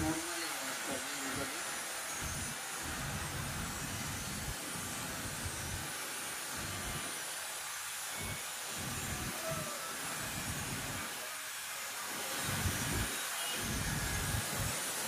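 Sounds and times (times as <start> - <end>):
steady hissing: 0.0 - 15.0.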